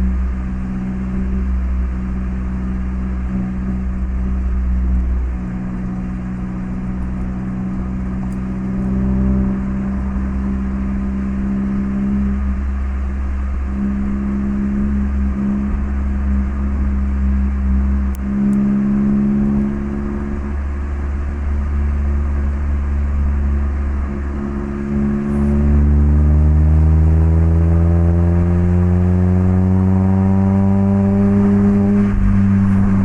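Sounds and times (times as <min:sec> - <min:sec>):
car engine and exhaust accelerating: 0:00.0 - 0:33.0.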